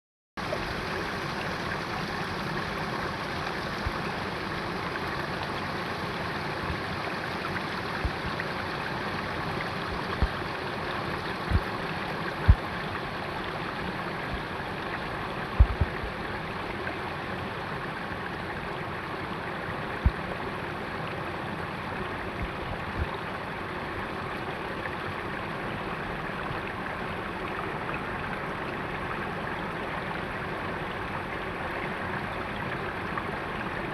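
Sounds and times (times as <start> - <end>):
steady rain: 0.4 - 33.9.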